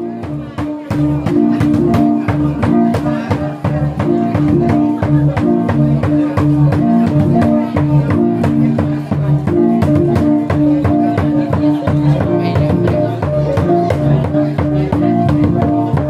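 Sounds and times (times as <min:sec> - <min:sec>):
drum beat: 0:00.0 - 0:16.0.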